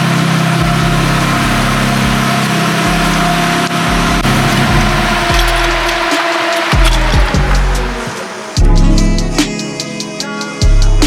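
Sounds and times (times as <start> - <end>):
rotary engine idling: 0.0 - 9.9.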